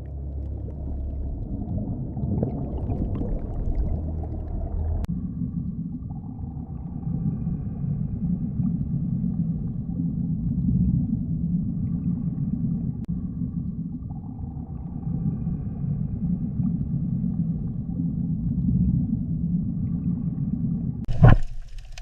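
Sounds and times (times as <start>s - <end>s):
deep underwater rumble: 0.0s - 22.0s.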